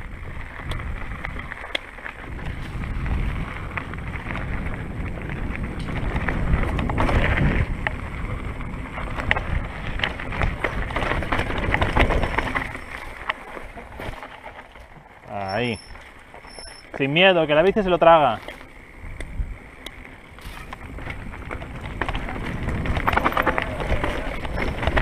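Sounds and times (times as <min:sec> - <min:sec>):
bike knocking and rattling: 0:00.0 - 0:25.0
wind and tyre rumble: 0:00.0 - 0:25.0.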